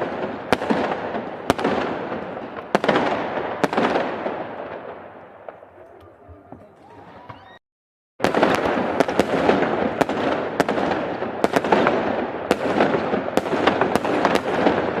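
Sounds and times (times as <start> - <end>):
fireworks crackling rumble: 0.0 - 7.6, 8.2 - 15.0
fireworks cracks and bangs: 0.0 - 7.6, 8.2 - 15.0.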